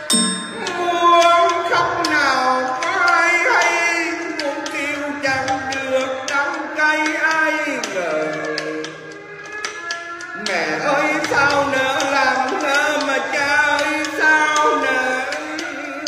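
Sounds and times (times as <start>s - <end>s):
instrumental accompaniment: 0.0s - 16.0s
person singing a lament: 0.0s - 16.0s
light percussive taps: 0.1s - 16.0s.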